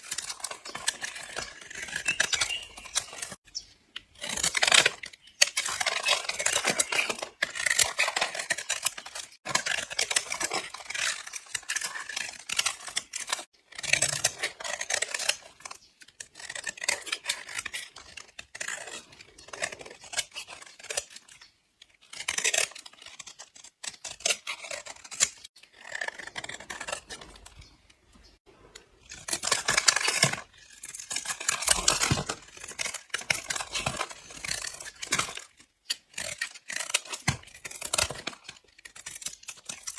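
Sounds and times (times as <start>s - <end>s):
blade slicing dry soap: 0.0s - 27.9s, 28.6s - 39.9s.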